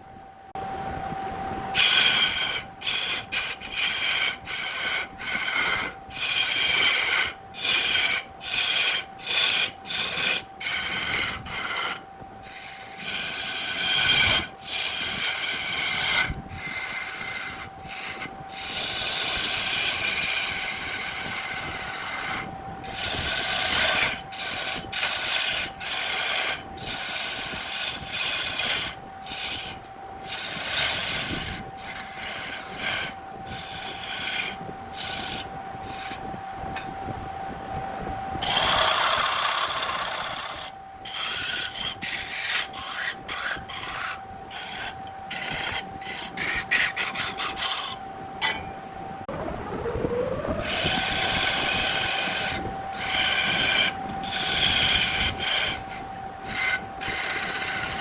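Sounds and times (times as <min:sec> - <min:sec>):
lathe motor whine: 0:00.0 - 0:58.0
tool scraping spinning wood: 0:01.7 - 0:37.1, 0:38.3 - 0:49.3, 0:50.4 - 0:58.0.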